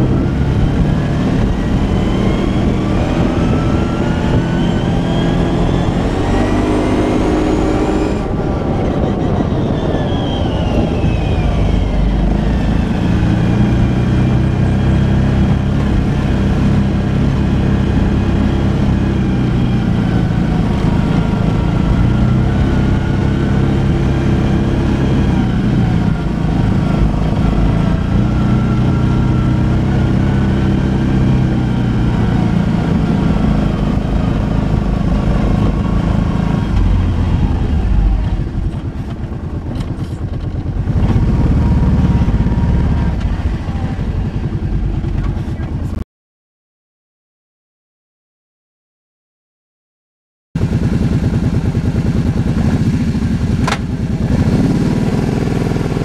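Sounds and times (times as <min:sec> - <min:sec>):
atv engine revving: 0:00.0 - 0:46.0, 0:50.6 - 0:56.0.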